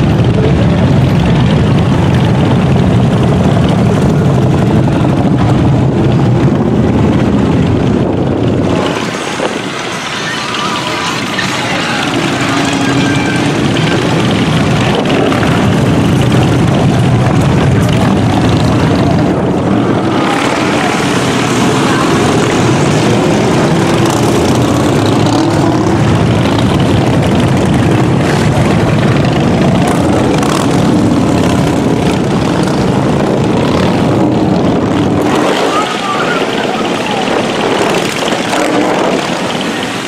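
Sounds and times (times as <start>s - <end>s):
many motorcycle engines rumbling: 0.0s - 40.0s.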